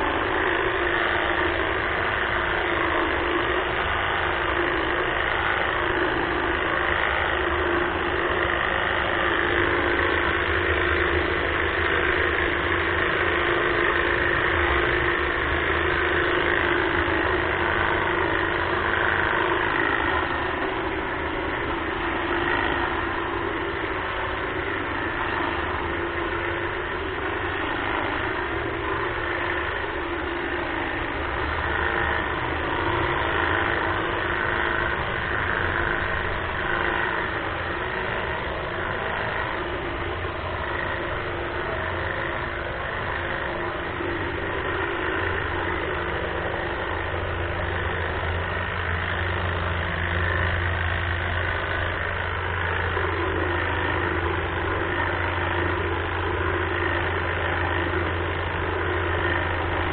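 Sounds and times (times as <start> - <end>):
hedge trimmer running: 0.0 - 59.9.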